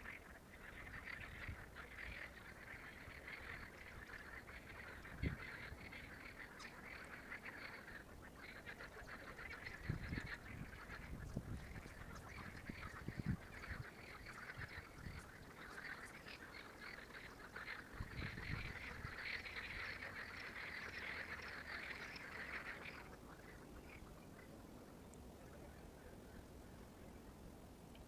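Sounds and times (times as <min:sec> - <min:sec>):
chorus of rapid animal calls: 0:00.0 - 0:24.6.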